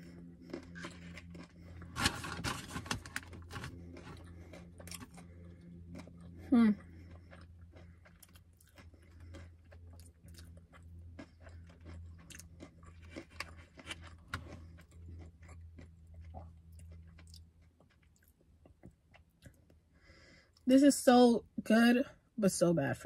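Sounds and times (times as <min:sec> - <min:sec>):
crunchy chewing: 0:00.0 - 0:19.8
steady low hum: 0:00.0 - 0:23.0.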